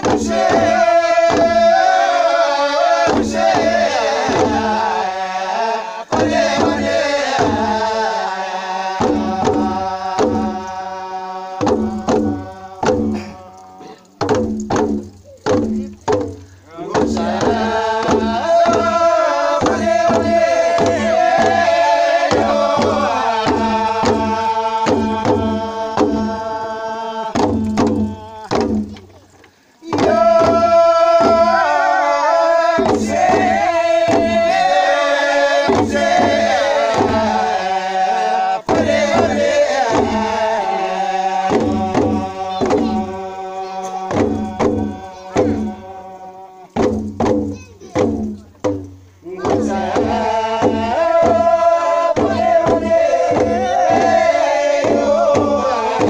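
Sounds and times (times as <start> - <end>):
group of voices chanting: 0.0 - 14.1, 16.7 - 29.1, 29.8 - 48.2, 49.2 - 56.0
steady drumbeats: 0.0 - 56.0.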